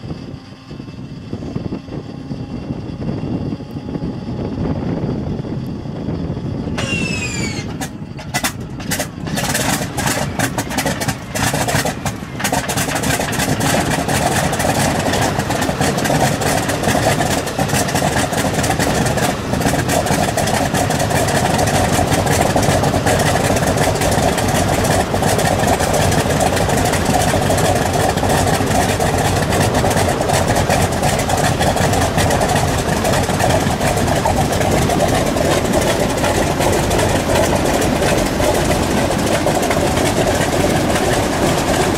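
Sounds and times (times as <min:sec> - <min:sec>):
radial aircraft engine starting: 0:00.0 - 0:41.9.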